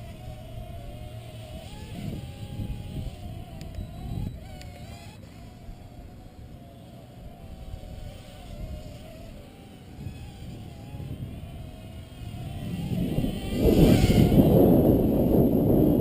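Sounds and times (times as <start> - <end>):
drone motors whining: 0.0 - 16.0
wind buffeting microphone: 0.0 - 16.0.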